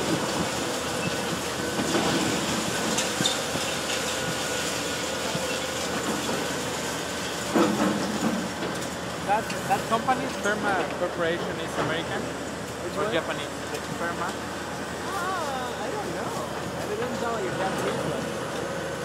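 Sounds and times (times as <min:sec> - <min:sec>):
excavator crunching concrete: 0:00.0 - 0:14.5, 0:15.8 - 0:19.0.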